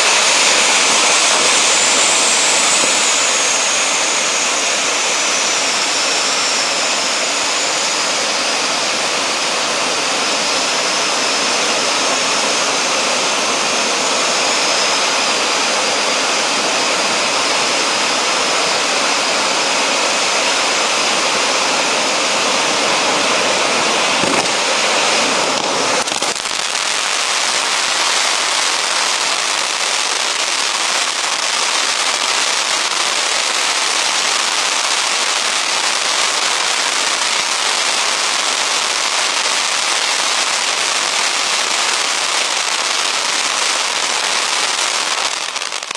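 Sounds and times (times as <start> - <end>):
firework crackling: 0.0 - 45.9
firework fountain hissing: 0.0 - 45.9.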